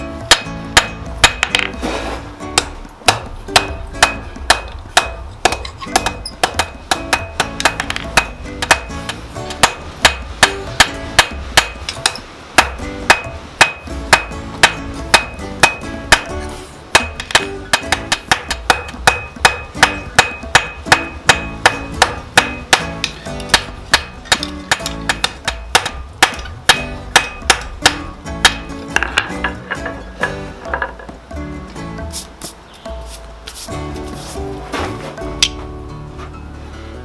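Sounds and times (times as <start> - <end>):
hammer striking steel on anvil: 0.3 - 31.2.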